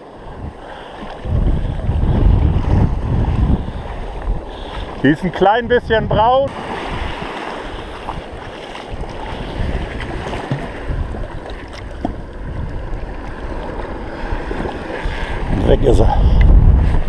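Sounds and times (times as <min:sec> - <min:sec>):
sea water lapping: 0:00.0 - 0:17.0
wind buffeting microphone: 0:00.0 - 0:17.0.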